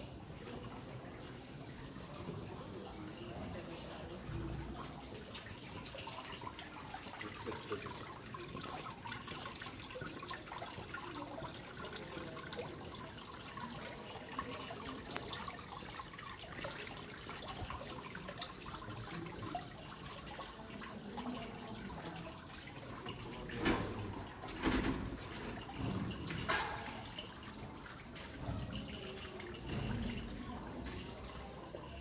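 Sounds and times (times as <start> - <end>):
water dripping: 0.0 - 32.0
water trickling and splashing: 0.0 - 32.0.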